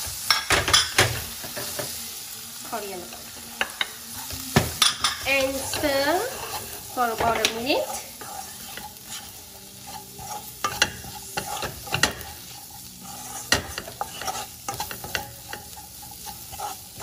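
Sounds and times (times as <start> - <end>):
food sizzling in a wok: 0.0 - 17.0
spatula scraping and knocking pan: 3.3 - 17.0.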